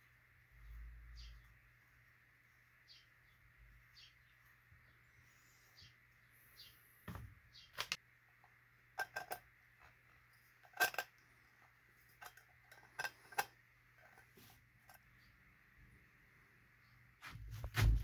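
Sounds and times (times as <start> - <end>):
faint steady hum: 0.0 - 17.7.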